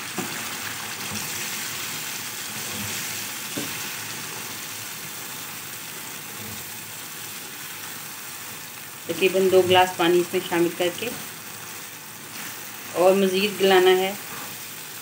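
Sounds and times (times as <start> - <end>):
beans sizzling in a frying pan: 0.0 - 15.0.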